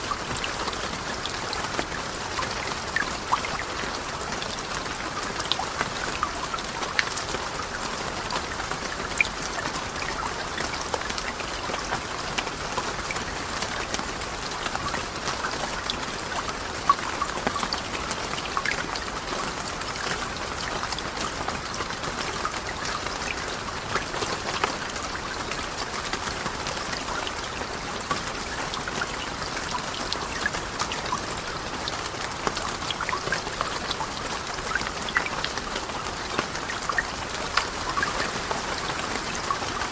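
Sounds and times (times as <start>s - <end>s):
steady rain with drop ticks: 0.0s - 39.9s.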